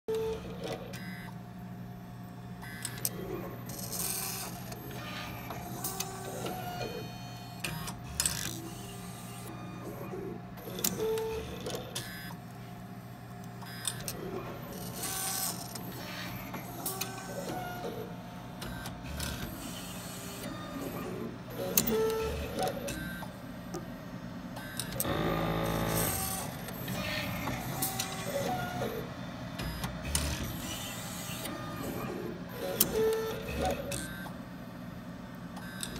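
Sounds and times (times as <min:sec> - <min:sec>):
machine hum: 0:01.4 - 0:35.9.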